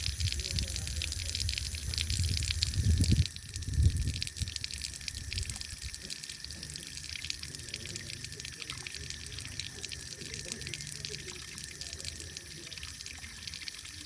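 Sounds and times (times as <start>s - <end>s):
patter of drips: 0.0s - 14.0s
water trickling and splashing: 0.0s - 14.0s.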